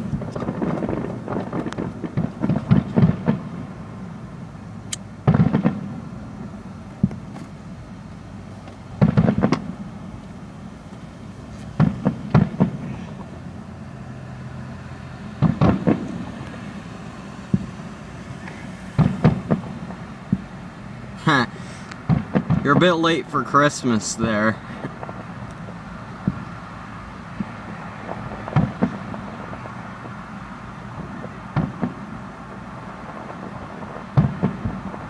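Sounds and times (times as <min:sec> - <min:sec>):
distant fireworks booming: 0:00.0 - 0:07.8, 0:08.6 - 0:35.0.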